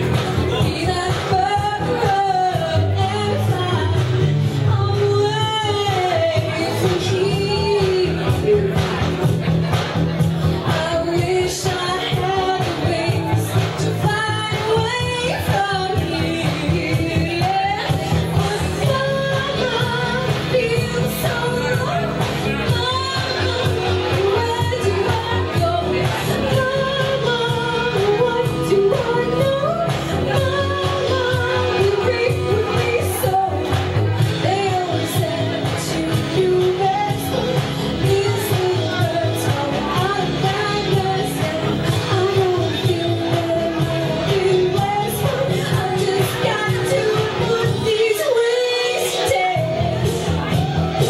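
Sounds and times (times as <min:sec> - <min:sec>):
woman singing: 0:00.0 - 0:09.8, 0:10.5 - 0:51.0
recorded backing track: 0:00.0 - 0:51.0.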